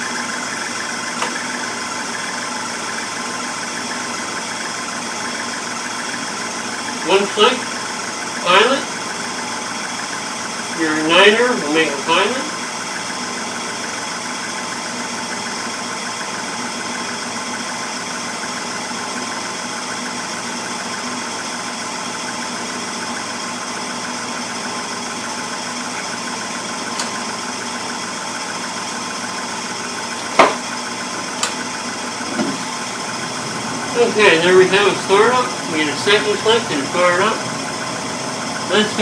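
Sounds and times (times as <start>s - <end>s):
furnace motor hum: 0.0s - 39.0s.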